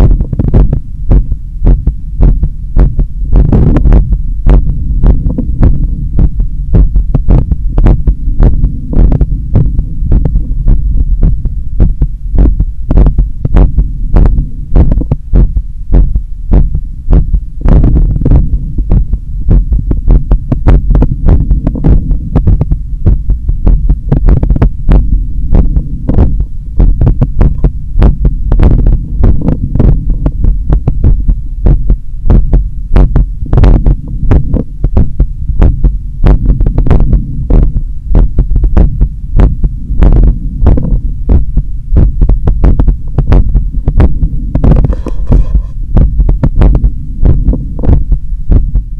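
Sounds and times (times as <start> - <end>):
heartbeat through stethoscope: 0.0 - 48.9
steady low hum: 0.0 - 48.9.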